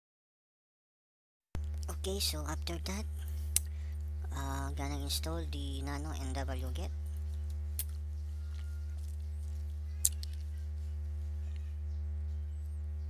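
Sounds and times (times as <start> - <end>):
low electrical hum: 1.6 - 13.0.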